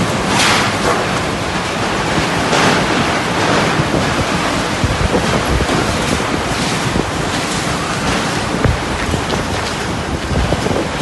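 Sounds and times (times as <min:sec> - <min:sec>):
heavy rain: 0:00.0 - 0:11.0
storm wind rushing: 0:00.0 - 0:11.0
wind gusts buffeting microphone: 0:00.0 - 0:11.0.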